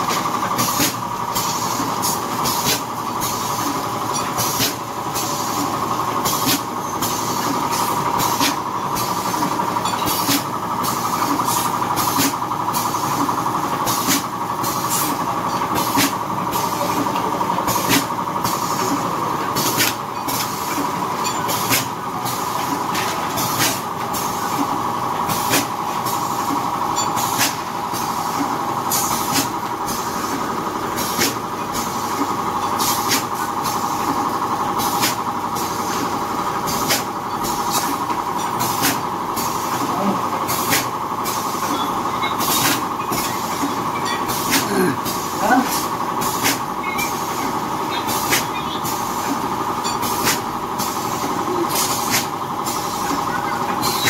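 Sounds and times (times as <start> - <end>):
sealing jaws hiss-clack: 0.1 - 17.1, 17.7 - 30.4, 31.0 - 34.2, 34.8 - 41.8, 42.4 - 53.1.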